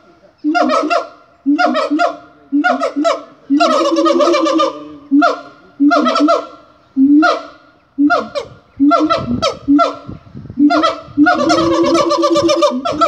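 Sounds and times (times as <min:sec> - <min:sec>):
apes honking and barking calls: 0:00.4 - 0:13.0.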